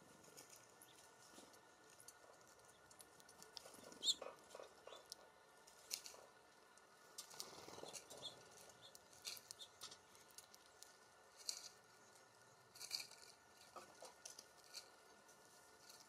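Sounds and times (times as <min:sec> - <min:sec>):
birds cracking seeds: 0:00.0 - 0:16.0.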